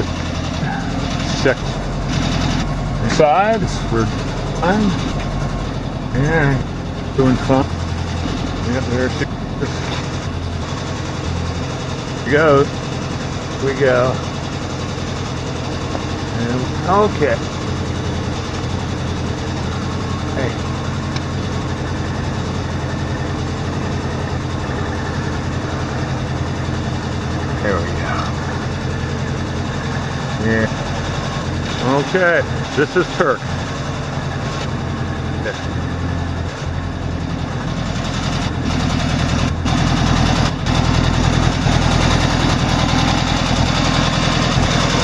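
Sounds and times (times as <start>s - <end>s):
van engine idling: 0.0s - 45.0s.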